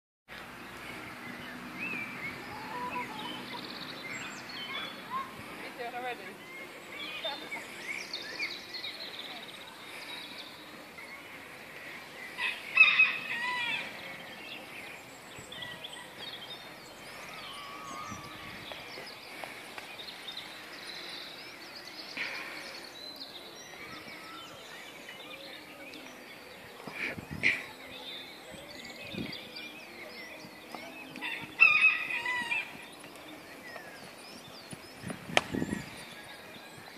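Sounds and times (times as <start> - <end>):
birds chirping and whistling: 0.5 - 36.9.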